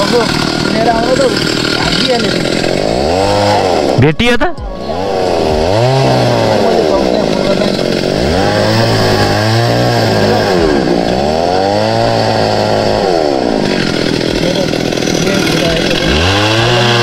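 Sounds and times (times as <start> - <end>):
chainsaw cutting wood: 0.0 - 4.0, 4.6 - 17.0.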